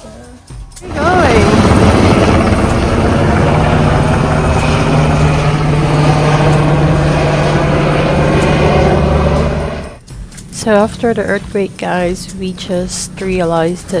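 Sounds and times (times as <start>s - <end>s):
engine running steadily: 0.8s - 14.0s.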